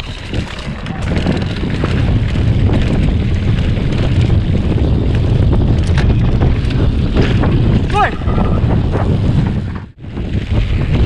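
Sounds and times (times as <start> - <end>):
motorbike engine rumble: 0.0 - 11.0
wind buffeting microphone: 0.0 - 11.0.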